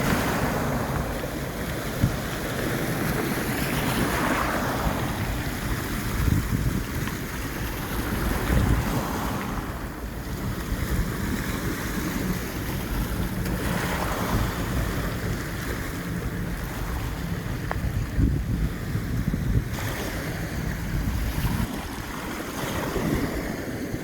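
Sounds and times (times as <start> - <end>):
waves washing onto shore: 0.0 - 24.0
wind buffeting microphone: 0.0 - 24.0.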